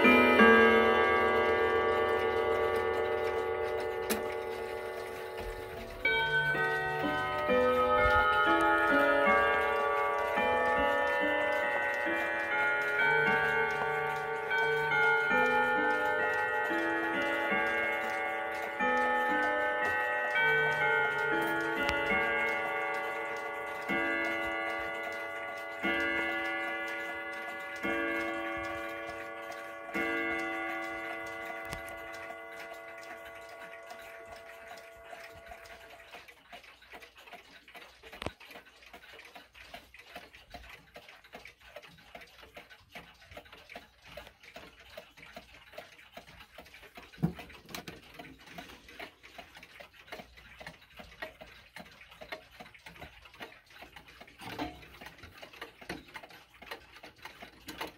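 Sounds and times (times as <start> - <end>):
clock striking a chime: 0.0 - 37.3, 39.2 - 57.9
pendulum clocks ticking: 0.0 - 57.9.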